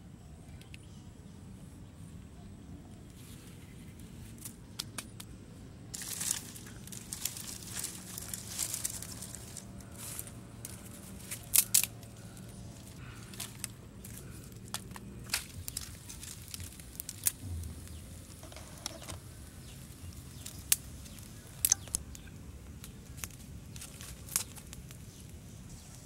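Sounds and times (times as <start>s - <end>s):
low hiss: 0.0s - 26.0s
twigs crackling in fire: 2.9s - 26.0s.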